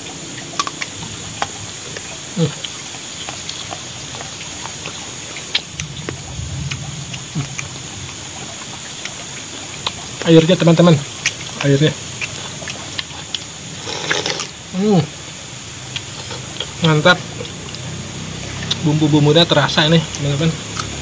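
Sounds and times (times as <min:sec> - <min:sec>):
person chewing and lip smacking: 0:00.0 - 0:10.4, 0:11.0 - 0:14.6, 0:15.8 - 0:18.9, 0:20.1 - 0:21.0.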